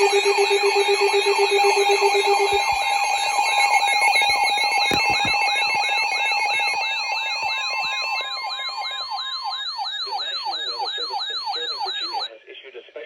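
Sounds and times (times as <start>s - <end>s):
falling siren-like alarm sweep: 0.0s - 12.3s
fast high electronic warble: 0.0s - 12.3s
steady electronic alert tones: 0.0s - 12.3s.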